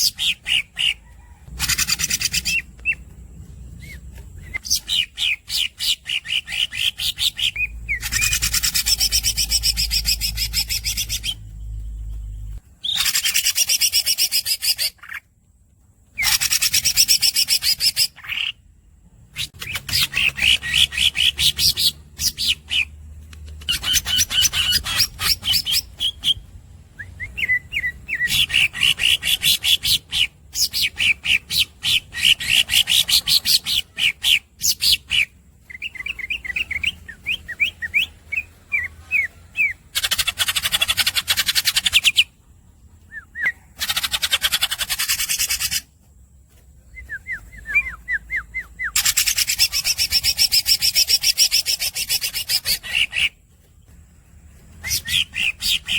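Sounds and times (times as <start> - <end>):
bird singing squeaky trills: 0.0 - 15.3, 16.1 - 46.1, 46.8 - 55.9.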